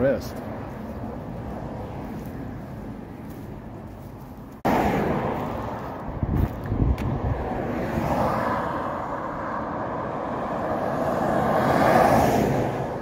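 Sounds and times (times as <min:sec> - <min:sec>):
vehicle passing on highway: 0:00.0 - 0:13.0.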